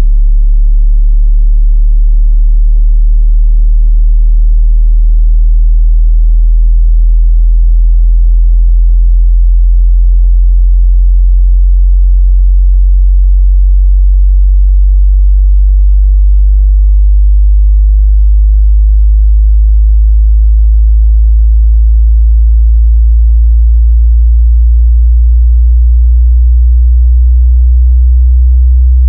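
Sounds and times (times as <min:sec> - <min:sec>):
low-pitched sine test tone: 0:00.0 - 0:29.0.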